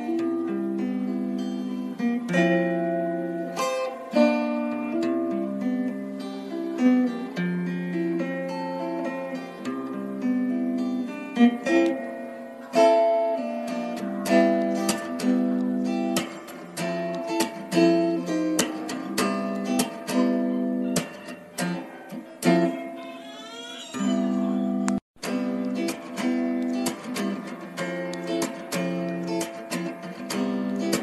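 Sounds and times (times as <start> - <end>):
acoustic guitar music: 0.0 - 31.0.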